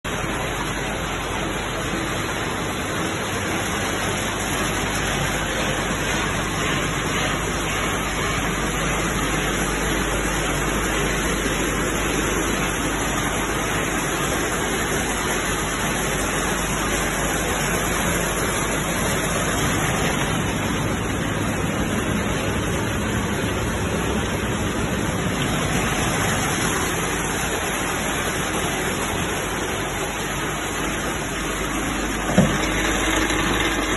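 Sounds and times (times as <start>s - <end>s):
low machinery hum: 0.1s - 33.9s.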